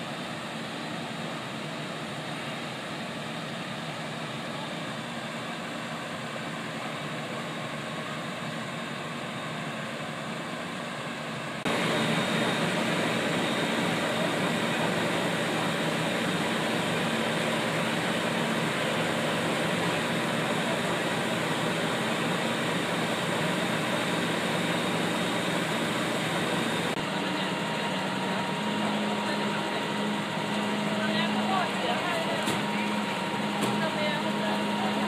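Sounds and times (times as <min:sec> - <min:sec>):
diesel engines humming: 0:00.0 - 0:35.0.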